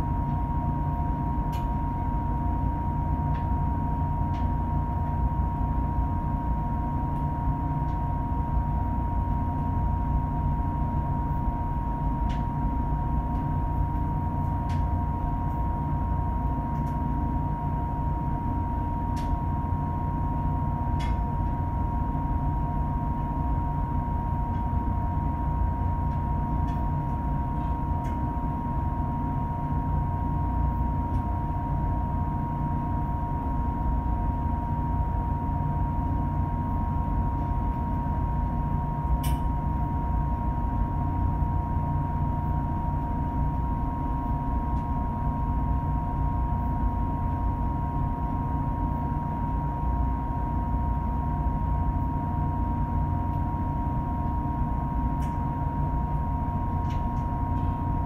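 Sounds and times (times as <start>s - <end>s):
steady whine: 0.0s - 58.0s.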